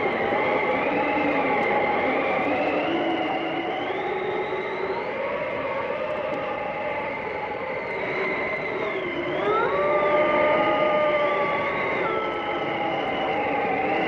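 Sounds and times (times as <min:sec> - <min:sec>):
howling blizzard wind: 0:00.0 - 0:14.0.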